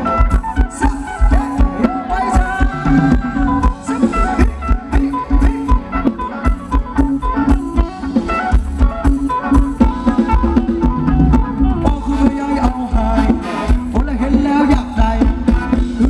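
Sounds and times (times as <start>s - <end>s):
heavy bass line: 0.0s - 16.0s
live band dance music: 0.0s - 16.0s
steady drum beat: 0.0s - 16.0s.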